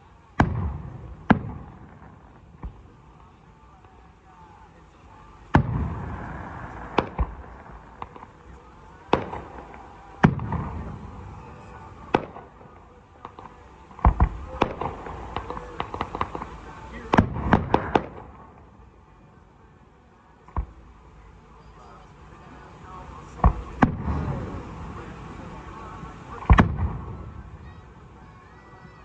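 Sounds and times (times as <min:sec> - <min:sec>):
firework crackling: 0:00.0 - 0:29.0.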